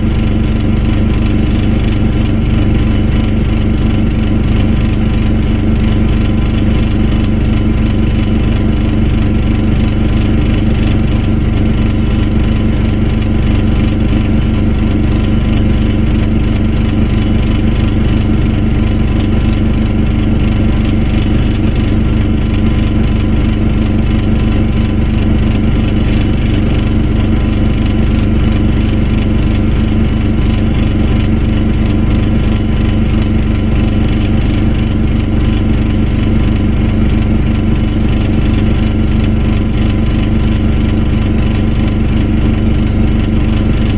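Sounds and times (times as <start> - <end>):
engine running steadily: 0.0 - 43.9
high whine: 0.0 - 43.9.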